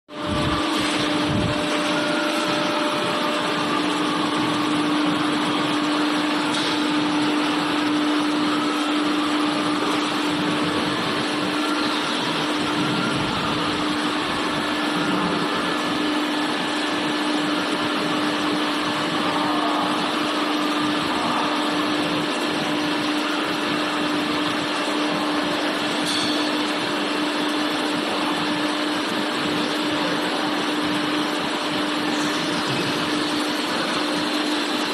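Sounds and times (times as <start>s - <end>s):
machinery hum: 0.1s - 34.9s.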